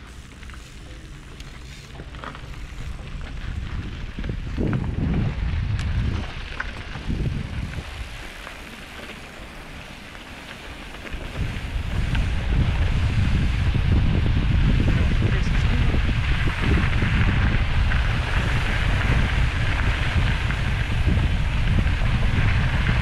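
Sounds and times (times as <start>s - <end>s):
bike riding over gravel: 0.0s - 23.0s
wind buffeting microphone: 0.0s - 23.0s.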